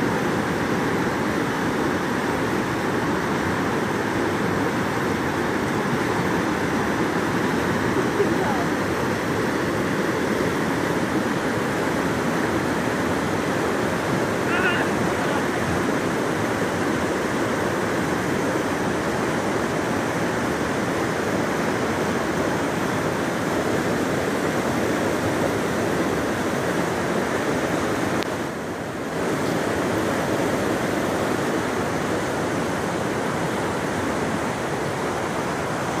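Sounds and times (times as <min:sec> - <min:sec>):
rushing whitewater rapids: 0:00.0 - 0:36.0.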